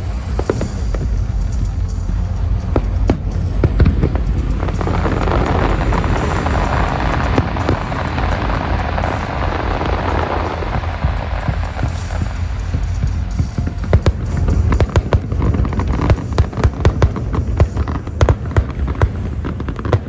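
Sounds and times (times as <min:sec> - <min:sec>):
firework crackling hiss: 0:00.0 - 0:20.0
fireworks booming: 0:00.0 - 0:20.0
sharp firework bangs: 0:00.0 - 0:20.0.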